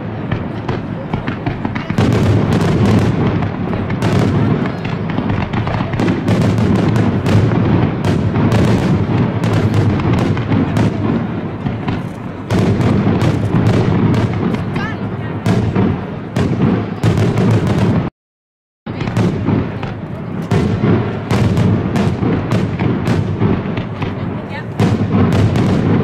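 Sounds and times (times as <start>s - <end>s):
fireworks bursting: 0.0s - 18.1s, 18.9s - 26.0s.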